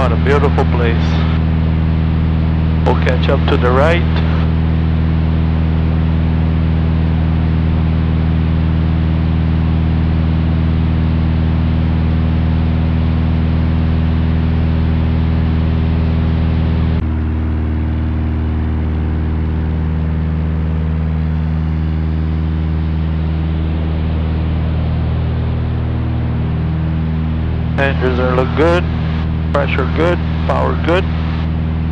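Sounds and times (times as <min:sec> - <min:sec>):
airplane engine and propeller drone: 0:00.0 - 0:31.9.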